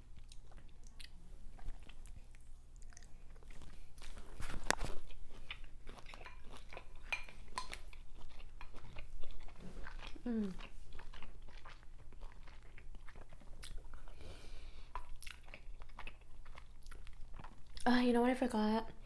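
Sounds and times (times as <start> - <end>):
close chewing and eating: 0.0 - 18.2.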